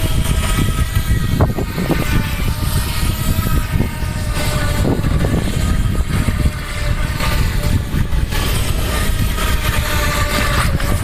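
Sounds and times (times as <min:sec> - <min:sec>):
toy boat electric motor whining: 0:00.0 - 0:11.0
wind rumble on microphone: 0:00.0 - 0:11.0.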